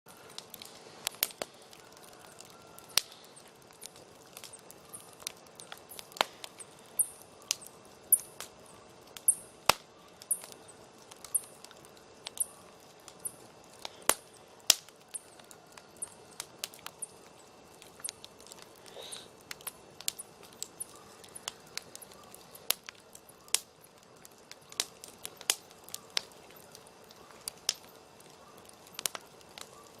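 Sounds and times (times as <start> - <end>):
campfire crackling and popping: 0.1 - 30.0.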